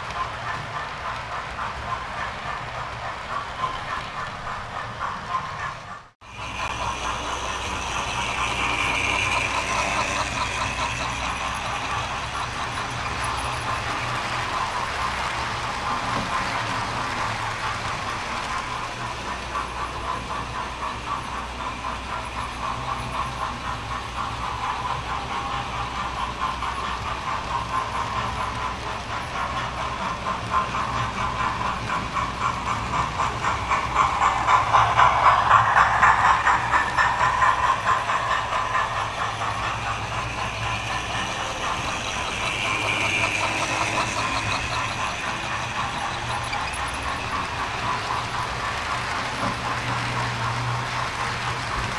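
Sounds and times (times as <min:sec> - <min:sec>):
model train wheels clicking on rails: 0:00.0 - 0:51.9.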